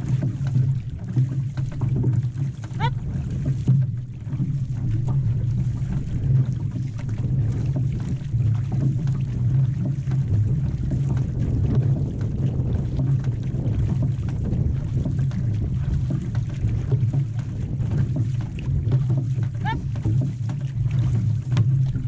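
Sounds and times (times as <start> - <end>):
paddles splashing: 0.0 - 22.0
rush of water: 0.0 - 22.0
wind buffeting microphone: 0.0 - 22.0.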